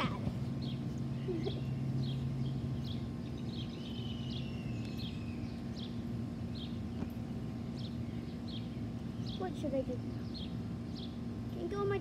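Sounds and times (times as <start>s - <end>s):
steady low hum: 0.0s - 12.0s
small bird chirping: 0.3s - 11.3s.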